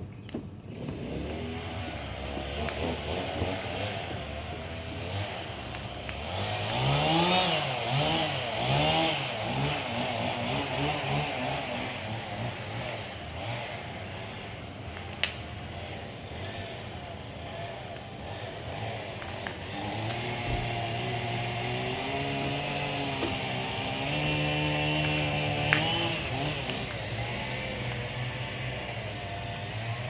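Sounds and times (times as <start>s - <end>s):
chainsaw revving: 0.7s - 30.0s.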